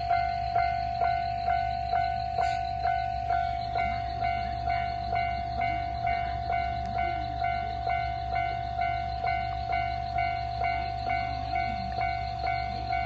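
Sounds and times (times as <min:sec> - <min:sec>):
higher-pitched alarm tone: 0:00.0 - 0:13.0
level crossing alarm ringing: 0:00.0 - 0:13.0.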